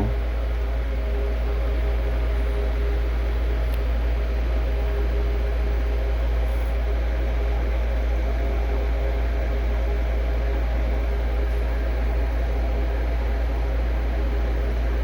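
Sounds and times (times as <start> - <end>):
low hum with fan whir: 0.0 - 15.0.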